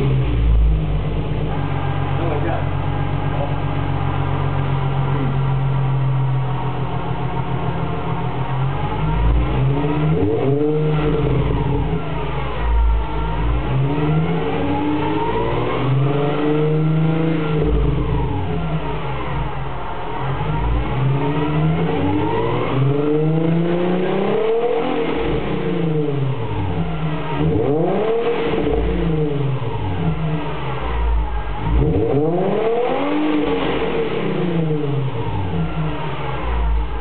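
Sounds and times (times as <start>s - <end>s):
car exhaust revving: 0.0s - 37.0s.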